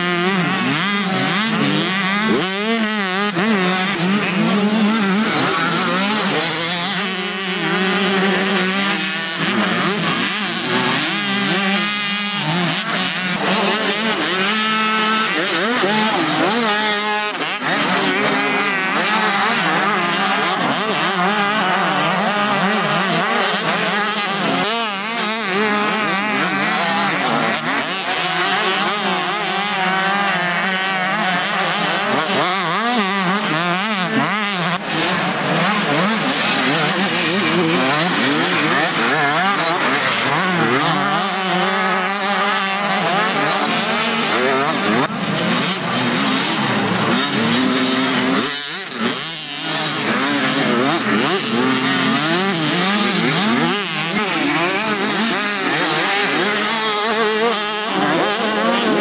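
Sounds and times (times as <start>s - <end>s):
motocross bikes revving: 0.0s - 59.0s.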